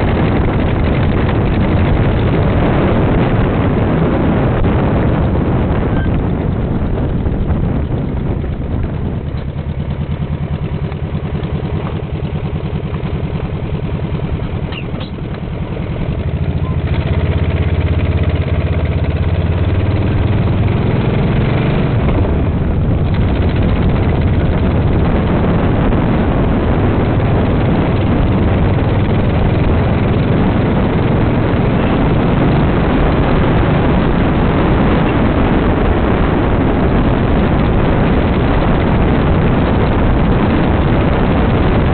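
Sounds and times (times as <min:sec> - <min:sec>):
buggy engine revving: 0:00.0 - 0:41.9.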